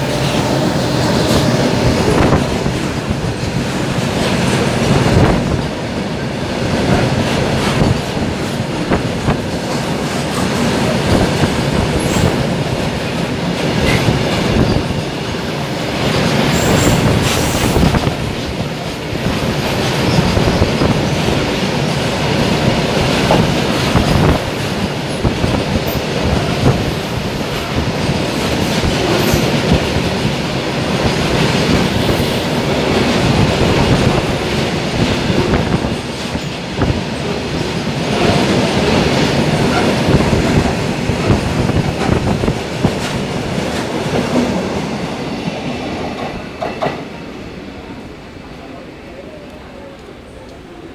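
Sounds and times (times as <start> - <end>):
train wheels clattering over rail joints: 0.0 - 44.8.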